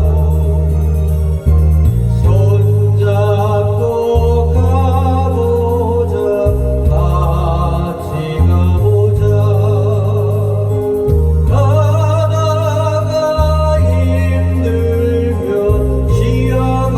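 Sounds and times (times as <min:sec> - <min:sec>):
person singing with vibrato: 0:00.0 - 0:16.9
pop backing track with bass: 0:00.0 - 0:16.9.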